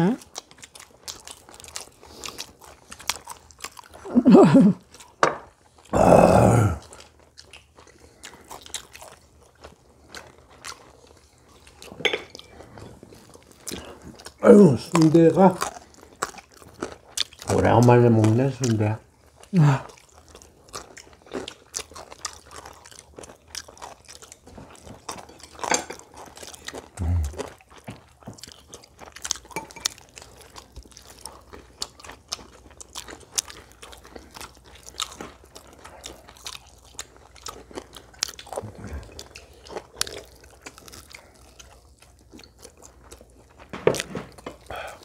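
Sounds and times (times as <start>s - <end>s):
people chewing and crunching food: 0.0s - 45.0s.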